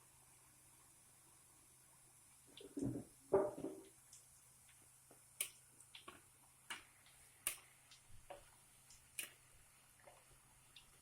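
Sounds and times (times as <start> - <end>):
frying oil popping: 0.0 - 11.0.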